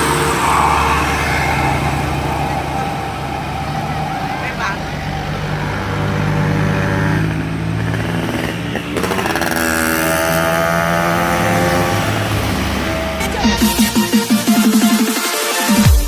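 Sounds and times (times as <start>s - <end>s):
bus engine pulling uphill: 0.0s - 14.9s.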